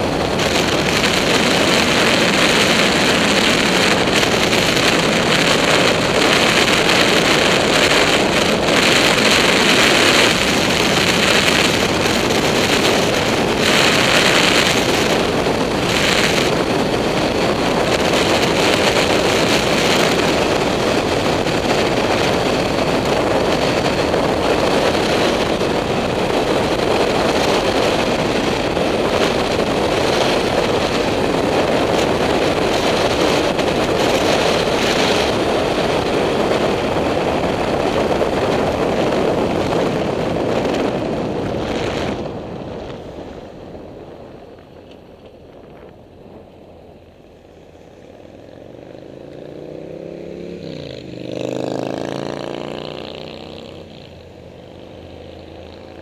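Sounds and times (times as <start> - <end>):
motorcycle running and road noise: 0.0 - 56.0
wind rushing over microphone: 0.0 - 56.0.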